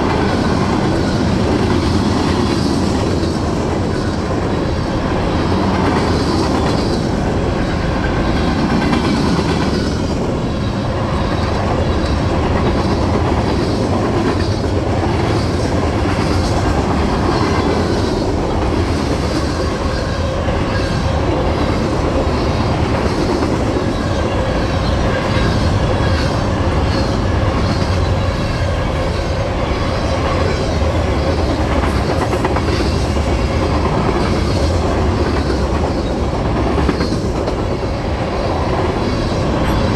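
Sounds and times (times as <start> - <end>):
freight train wheels clicking: 0.0 - 39.9.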